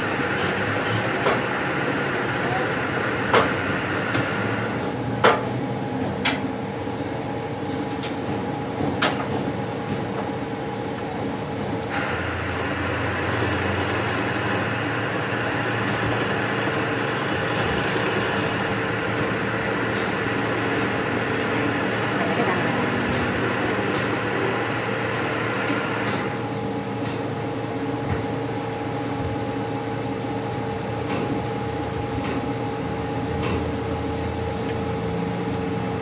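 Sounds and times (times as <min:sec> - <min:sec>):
workshop machine running: 0:00.0 - 0:36.0.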